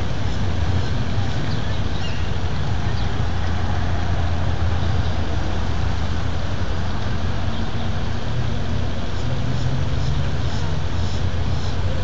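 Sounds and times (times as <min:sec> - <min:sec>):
low engine hum: 0:00.0 - 0:12.0
road traffic rumble: 0:00.0 - 0:12.0.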